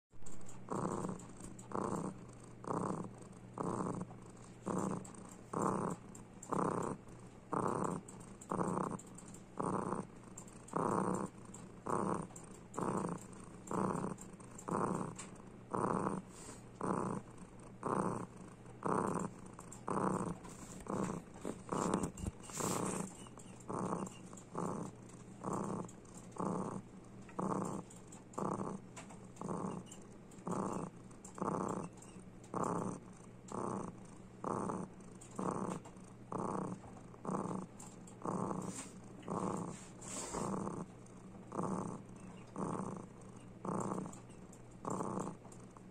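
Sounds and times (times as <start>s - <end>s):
cat purring: 0.2s - 45.9s.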